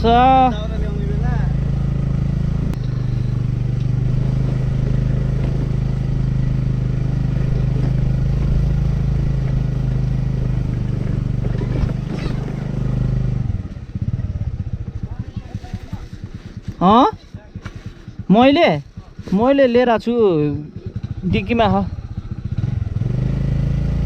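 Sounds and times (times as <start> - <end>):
small motorbike engine running: 0.0 - 24.0.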